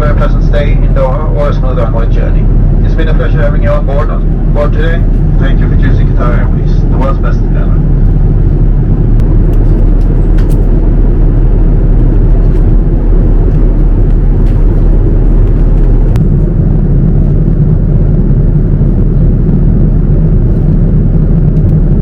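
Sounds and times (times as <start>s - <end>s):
low airliner cabin rumble: 0.0s - 22.0s.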